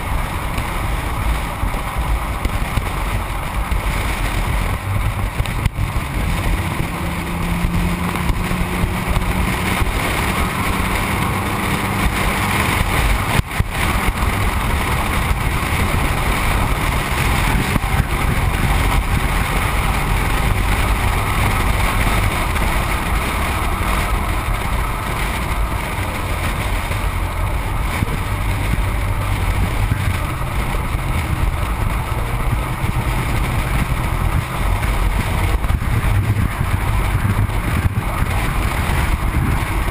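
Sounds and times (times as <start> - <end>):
engine running: 0.0 - 39.9
tyres rushing on pavement: 0.0 - 39.9
wind over microphone: 0.0 - 39.9.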